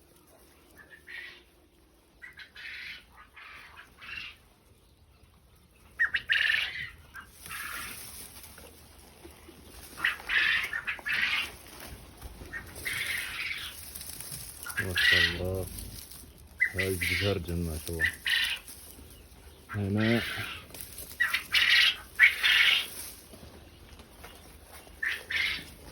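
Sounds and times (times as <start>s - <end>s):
quail calling: 0.7s - 1.6s, 2.2s - 4.4s, 5.9s - 8.3s, 9.5s - 25.9s.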